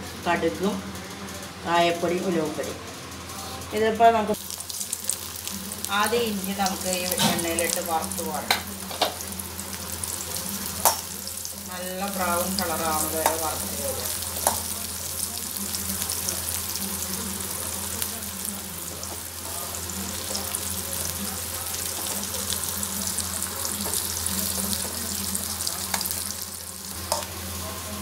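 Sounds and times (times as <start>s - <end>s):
ginger sizzling in hot oil: 4.4s - 28.0s.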